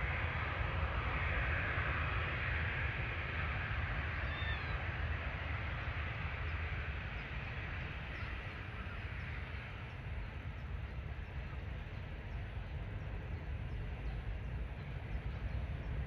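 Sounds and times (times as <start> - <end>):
jet airliner engine roar: 0.0 - 16.0
wind rumble on microphone: 0.0 - 16.0.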